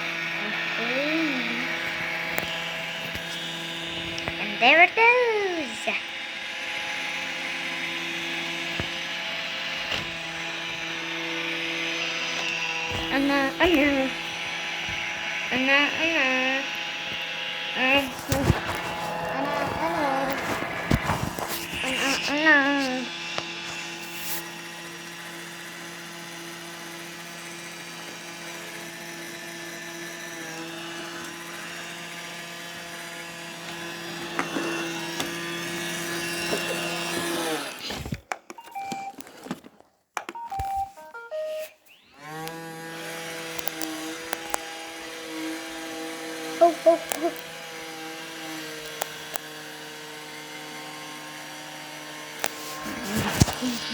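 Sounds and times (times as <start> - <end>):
robot vacuum motor humming: 0.0 - 53.9.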